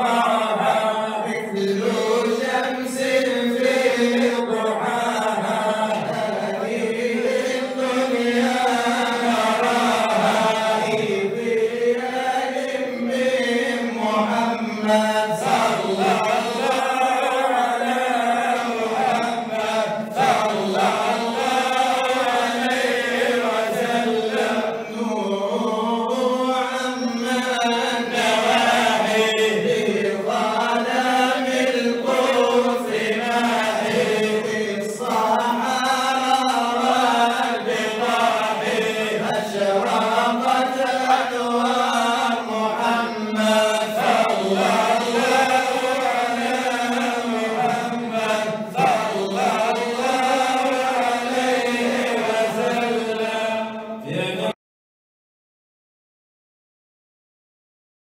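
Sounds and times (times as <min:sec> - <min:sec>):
men chanting together: 0:00.0 - 0:54.6
person singing into a microphone: 0:00.0 - 0:54.6.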